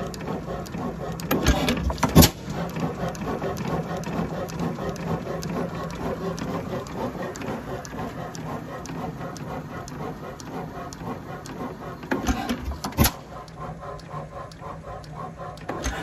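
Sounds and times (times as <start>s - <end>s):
engine rhythmic mechanical clatter: 0.0s - 16.0s.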